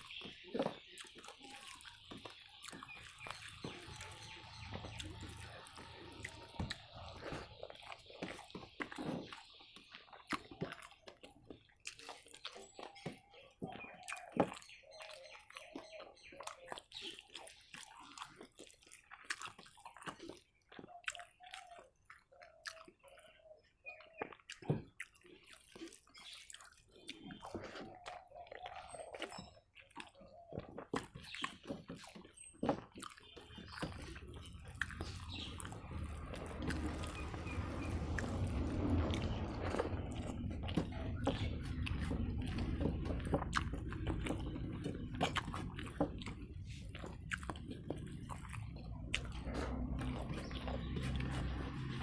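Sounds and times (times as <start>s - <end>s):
person chewing food: 0.0s - 52.0s.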